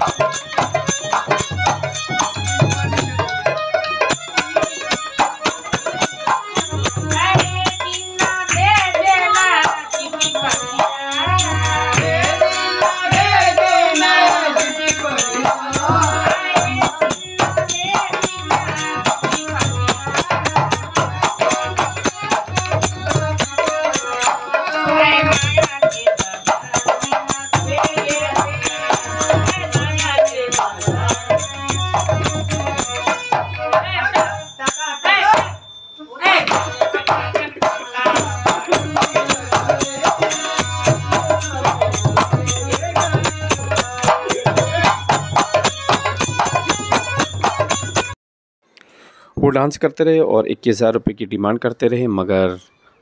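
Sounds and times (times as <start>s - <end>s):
harmonium: 0.0s - 35.4s, 36.2s - 48.2s
fast percussion beat: 0.0s - 48.2s
person singing: 4.1s - 47.9s.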